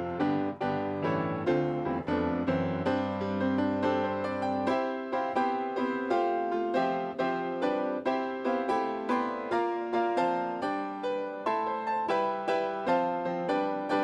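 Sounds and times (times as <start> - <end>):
slow solo piano piece: 0.0 - 14.0.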